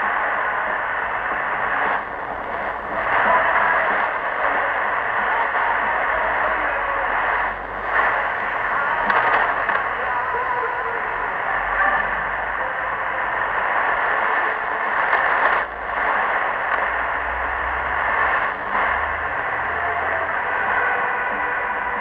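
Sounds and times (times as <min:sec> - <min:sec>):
radio static and interference: 0:00.0 - 0:22.0
weak radio broadcast: 0:00.0 - 0:22.0.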